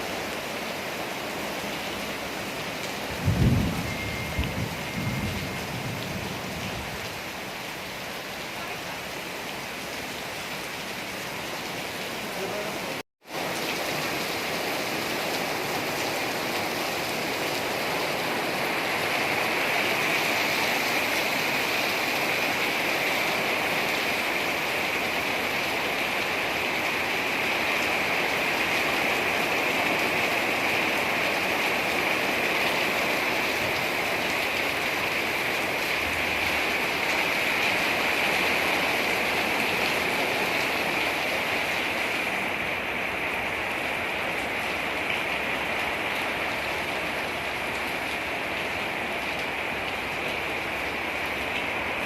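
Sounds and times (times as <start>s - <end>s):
rain falling steadily: 0.0s - 52.0s.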